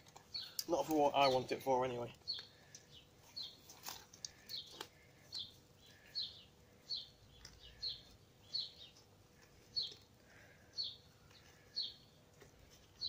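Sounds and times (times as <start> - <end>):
small bird chirping: 0.2 - 0.6, 2.2 - 10.1, 10.7 - 13.0.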